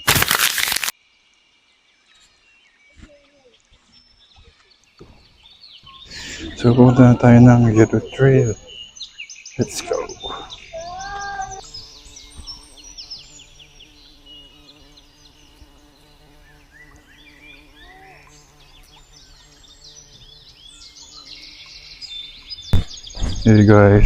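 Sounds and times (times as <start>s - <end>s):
birds chirping: 1.4s - 24.0s.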